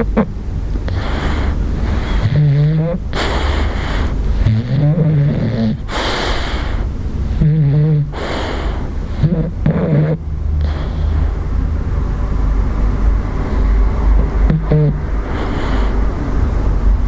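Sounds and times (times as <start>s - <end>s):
dog snoring: 0.0s - 11.4s, 13.5s - 16.0s.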